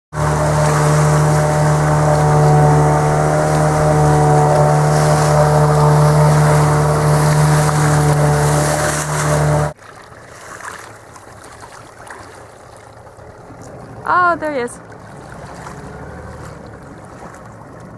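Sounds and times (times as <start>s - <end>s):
boat motor running: 0.1s - 10.3s, 12.6s - 17.9s
sea sounds: 0.1s - 17.9s
water rushing along hull: 0.1s - 17.9s.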